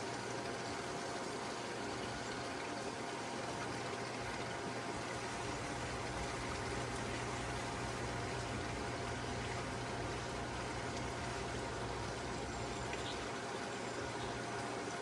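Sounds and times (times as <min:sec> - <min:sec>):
water rushing: 0:01.6 - 0:15.0.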